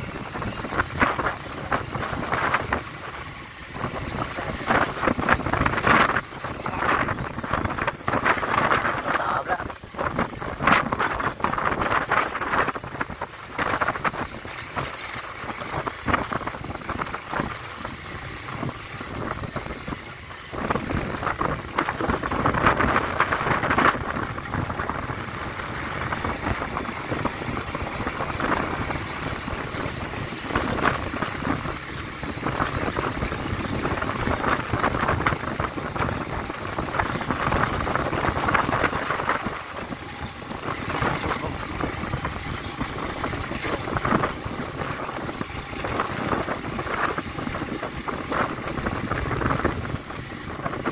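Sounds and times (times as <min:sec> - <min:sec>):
motorcycle engine running: 0:00.0 - 0:50.9
wind noise on microphone: 0:00.0 - 0:50.9.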